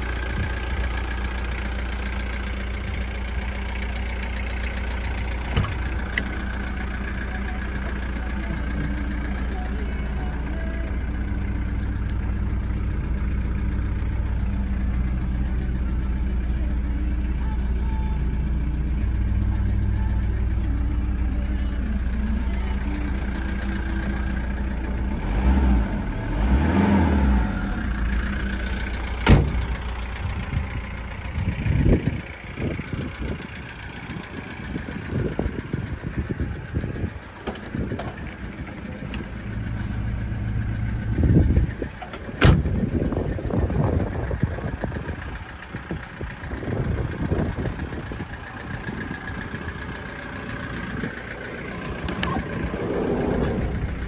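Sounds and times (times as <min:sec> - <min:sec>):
van engine idling: 0:00.0 - 0:54.0.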